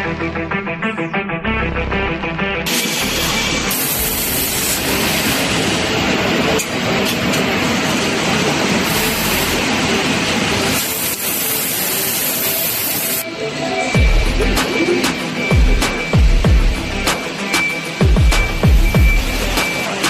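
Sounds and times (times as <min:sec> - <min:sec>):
loud machinery noise with hiss: 0:02.6 - 0:20.0.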